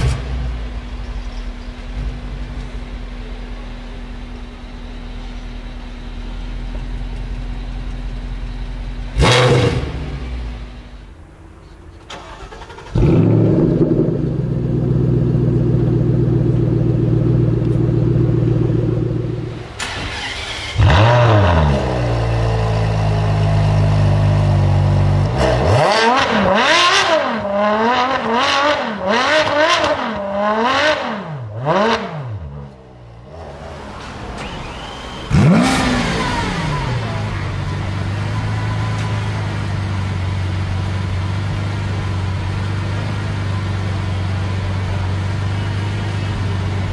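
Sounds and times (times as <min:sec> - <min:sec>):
car engine idling: 0:00.0 - 0:25.4, 0:32.7 - 0:46.9
car engines starting: 0:00.0 - 0:46.9
car engine revving: 0:08.4 - 0:11.2, 0:12.1 - 0:46.9.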